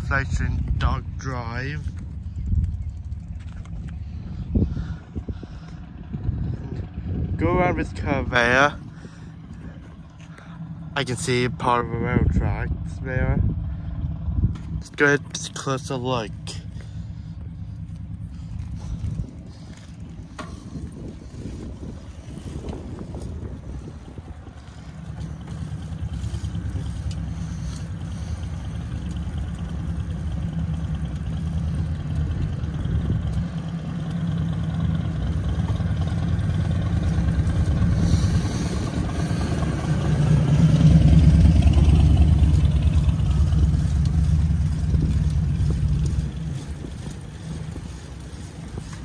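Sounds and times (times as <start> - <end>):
wind buffeting microphone: 0.0 - 14.8, 17.0 - 49.0.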